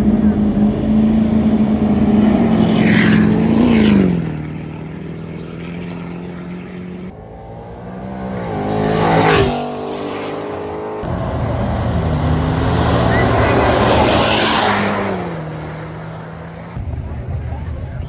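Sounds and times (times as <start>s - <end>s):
trucks driving past: 0.0s - 18.0s.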